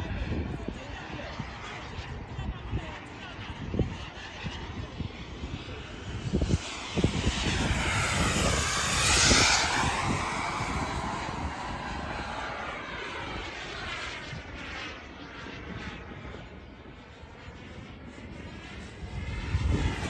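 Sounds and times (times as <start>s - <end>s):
model jet whine flying past: 0.0s - 20.0s.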